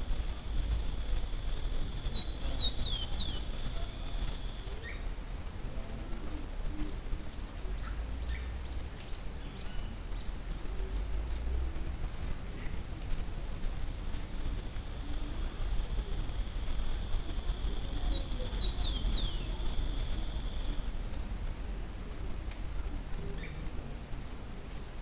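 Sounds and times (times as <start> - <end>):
faint bird chirps: 0.2 - 21.4.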